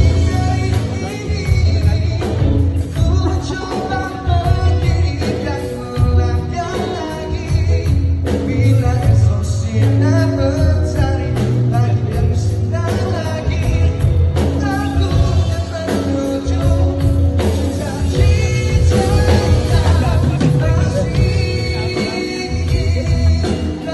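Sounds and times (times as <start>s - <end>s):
live pop-rock band playing: 0.0s - 23.9s
man singing lead vocal: 0.0s - 23.9s.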